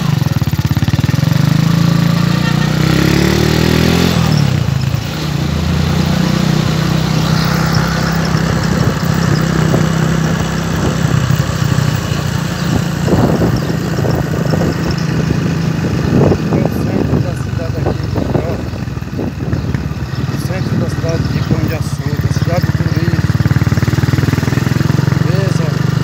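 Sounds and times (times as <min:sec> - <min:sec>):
street noise: 0:00.0 - 0:26.0
vehicle engine humming: 0:00.0 - 0:26.0.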